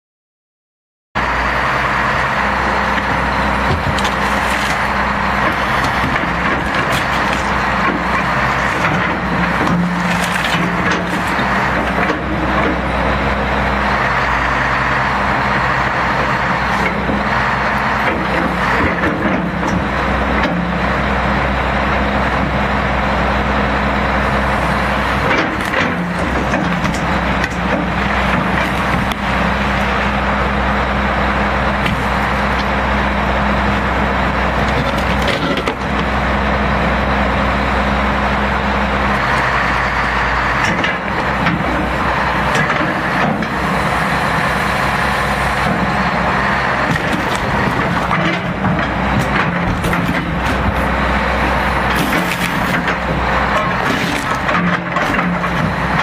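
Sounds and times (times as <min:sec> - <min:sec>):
excavator and truck engines running: 0:01.2 - 0:56.0.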